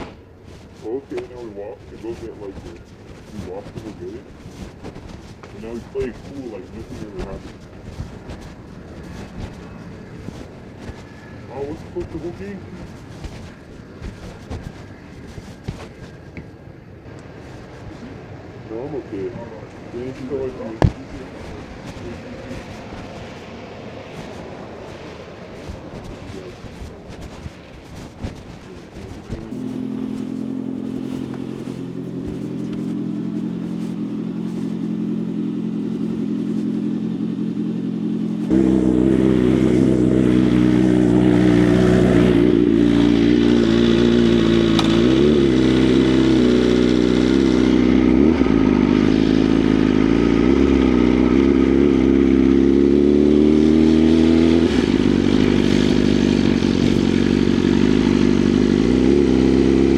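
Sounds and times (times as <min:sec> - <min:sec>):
motorcycle engine starting and idling: 0:00.0 - 0:16.6, 0:27.9 - 0:59.9
engine throttle blips: 0:00.0 - 0:59.9.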